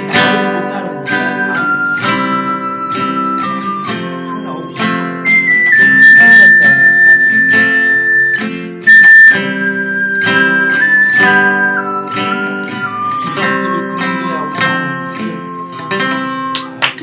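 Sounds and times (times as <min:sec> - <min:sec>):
ocarina melody: 0:00.0 - 0:16.8
acoustic guitar accompaniment: 0:00.0 - 0:17.0.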